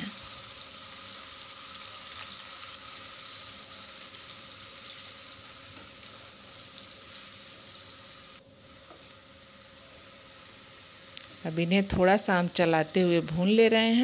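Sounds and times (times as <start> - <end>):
onion paste sizzling in oil: 0.0 - 14.0.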